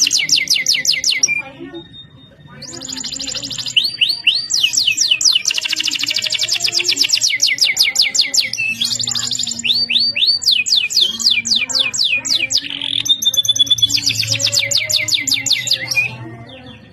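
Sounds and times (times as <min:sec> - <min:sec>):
canary singing trills: 0:00.0 - 0:16.9.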